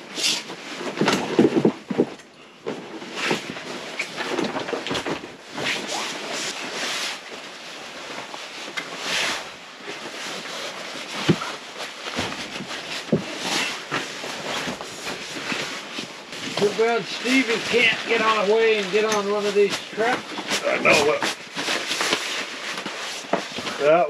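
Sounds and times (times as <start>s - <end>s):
fabric rustling: 0.0s - 24.0s.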